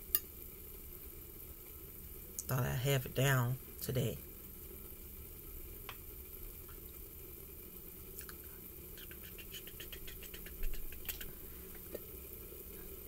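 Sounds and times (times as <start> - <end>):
noodles simmering in water: 0.0 - 13.0.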